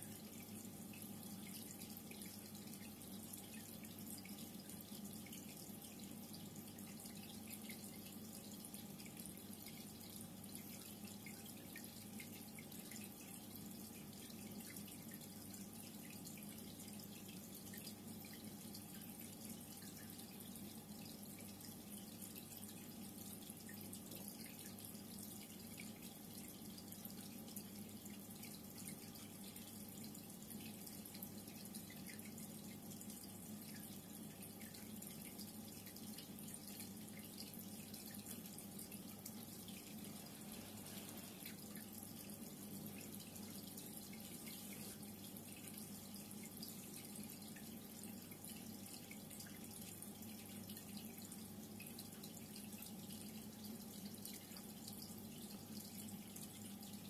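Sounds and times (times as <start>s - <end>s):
water trickling and dripping: 0.0s - 57.0s.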